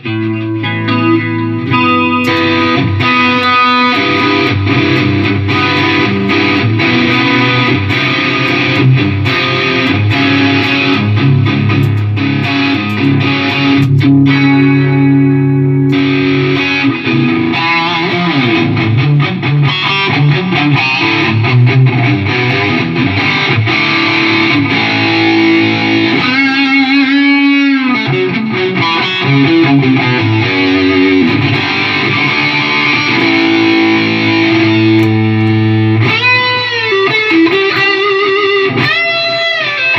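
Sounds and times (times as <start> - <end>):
electric guitar notes and riffs: 0.0 - 39.9.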